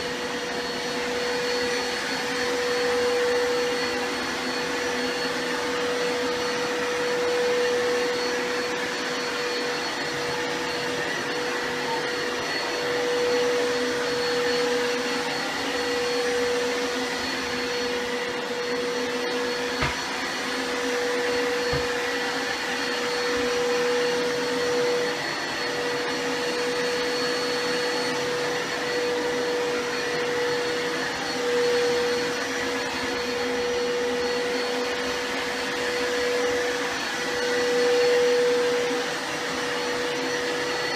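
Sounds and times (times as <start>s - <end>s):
vacuum cleaner motor running: 0.0s - 40.9s.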